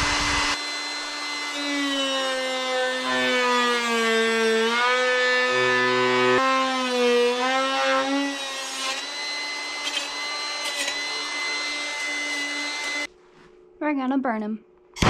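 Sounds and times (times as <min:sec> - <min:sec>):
rotary tool grinding wood: 0:00.0 - 0:13.1.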